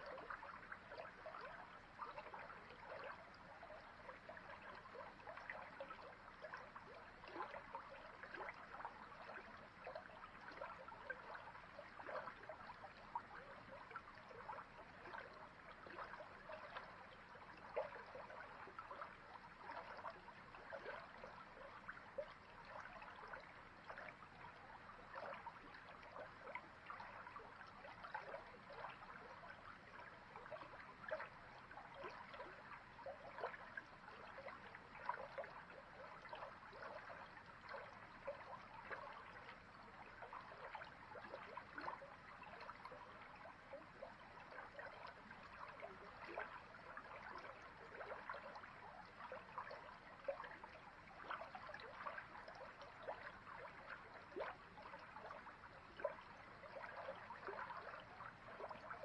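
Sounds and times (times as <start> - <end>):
creek babbling over stones: 0.0 - 59.0
small plinks and splashes: 0.0 - 59.0.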